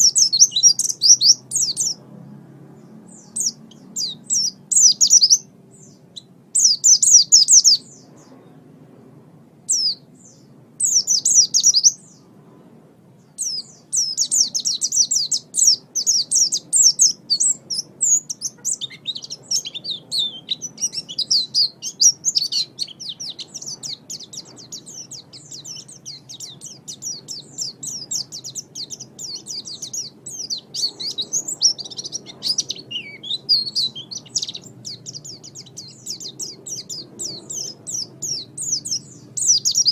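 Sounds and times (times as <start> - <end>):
bird twittering: 0.0 - 2.0, 2.8 - 8.5, 9.7 - 12.2, 13.3 - 39.9.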